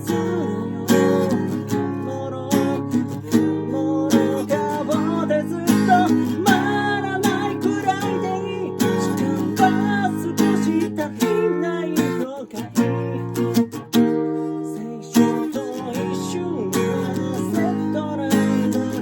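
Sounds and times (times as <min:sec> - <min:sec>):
acoustic guitar strumming: 0:00.0 - 0:19.0
person singing: 0:00.0 - 0:19.0.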